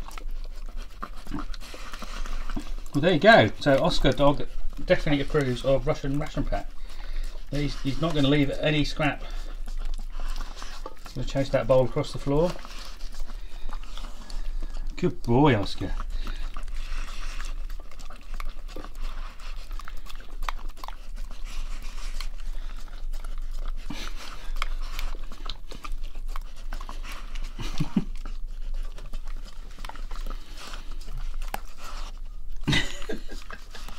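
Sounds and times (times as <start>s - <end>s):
dog licking metal bowl: 0.0s - 33.9s.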